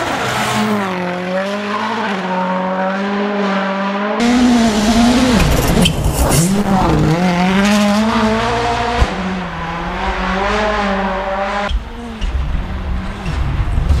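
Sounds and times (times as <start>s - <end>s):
rally car engine at high revs: 0.0s - 14.0s.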